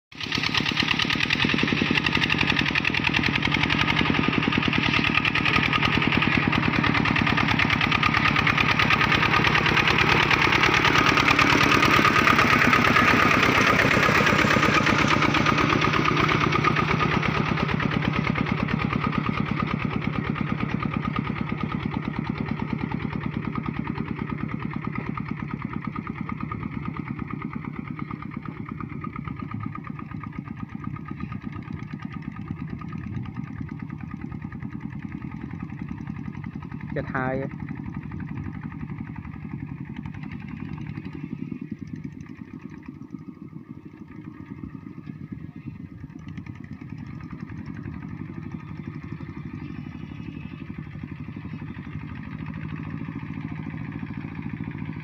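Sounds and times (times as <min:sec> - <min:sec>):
tractor diesel engine under load: 0:00.1 - 0:55.0.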